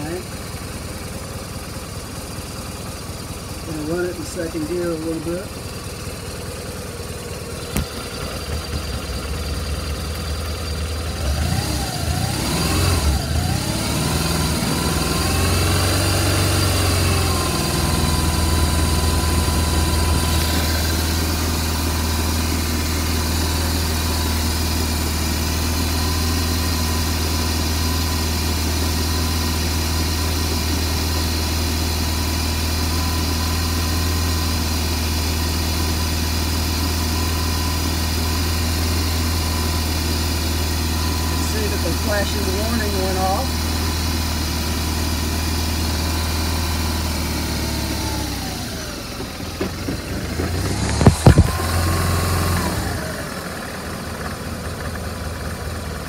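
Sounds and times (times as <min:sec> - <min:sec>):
motorcycle engine revving: 0:00.0 - 0:31.9, 0:36.6 - 0:55.9.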